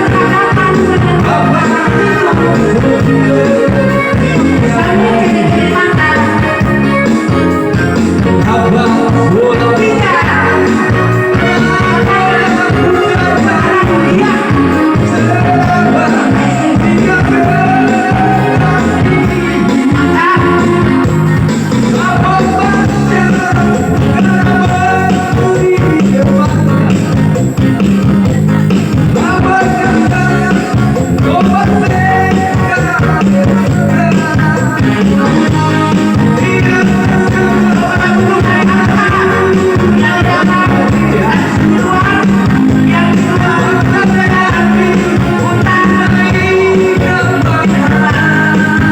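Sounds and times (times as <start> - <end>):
loud song with heavy bass: 0.0 - 48.9.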